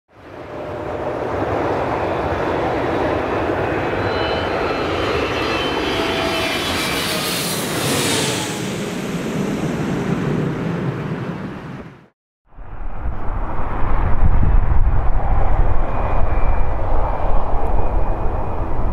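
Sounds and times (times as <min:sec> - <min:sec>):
jet airliner roar overhead: 0:00.2 - 0:18.9.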